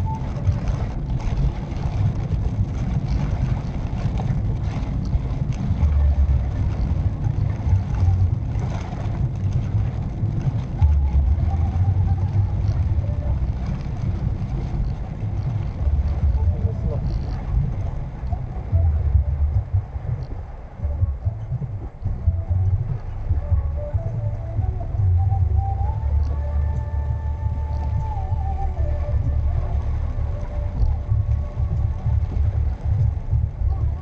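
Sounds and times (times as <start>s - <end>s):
car engine and road rumble: 0.0s - 34.0s
tyre noise on wet road: 0.0s - 34.0s.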